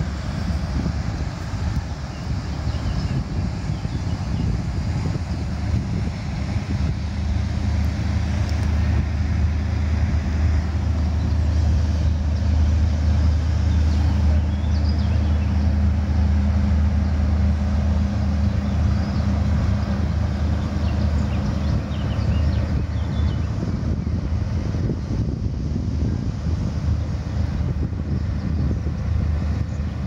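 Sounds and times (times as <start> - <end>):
ship diesel engines droning: 0.0 - 30.0.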